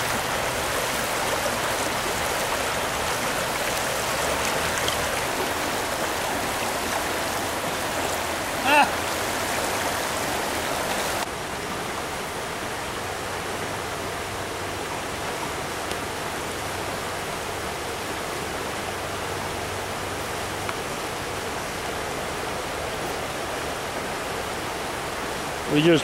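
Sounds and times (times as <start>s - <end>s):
stream rushing over stones: 0.0s - 26.0s.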